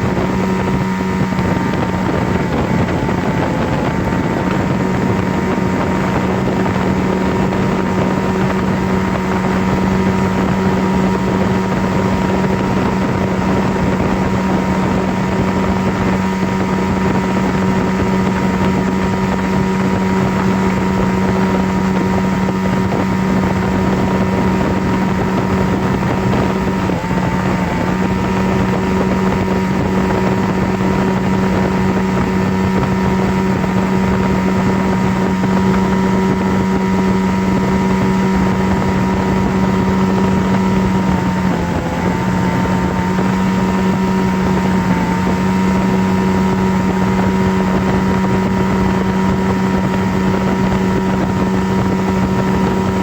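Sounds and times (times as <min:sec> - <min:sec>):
steady mechanical drone: 0:00.0 - 0:53.0.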